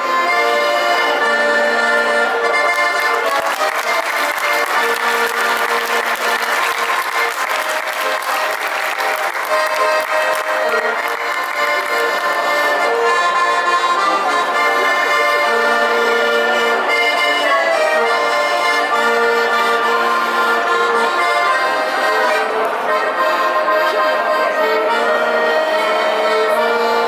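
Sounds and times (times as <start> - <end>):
accordion playing slow tune: 0.0 - 27.0.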